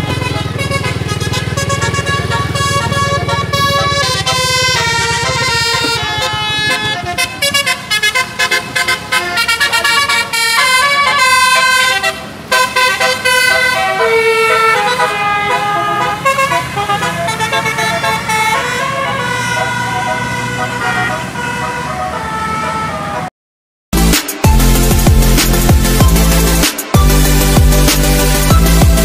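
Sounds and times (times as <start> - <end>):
engine running: 0.0 - 21.4, 24.0 - 29.0
musical air horn playing a tune: 0.0 - 23.3.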